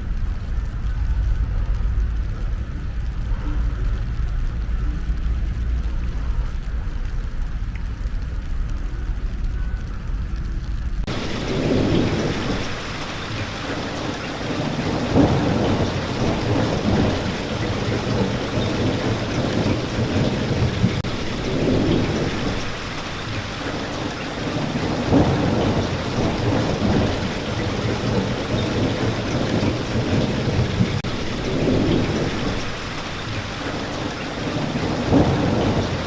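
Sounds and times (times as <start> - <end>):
heavy rain: 0.0 - 36.0
low thunder: 0.0 - 36.0.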